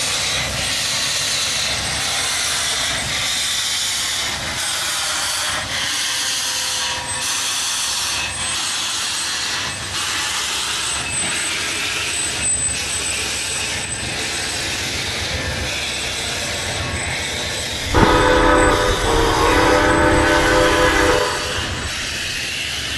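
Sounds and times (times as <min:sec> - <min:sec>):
steam locomotive hissing steam: 0:00.0 - 0:22.9.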